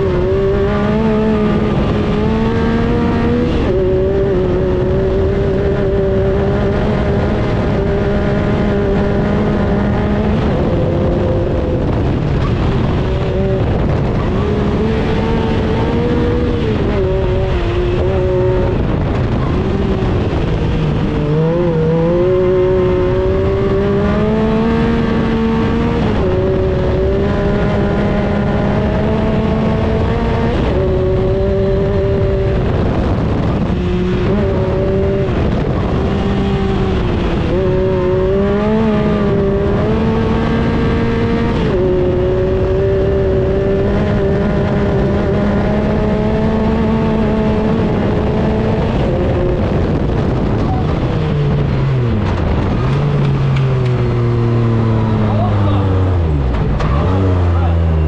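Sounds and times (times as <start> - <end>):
race buggy engine running hard: 0.0 - 58.0.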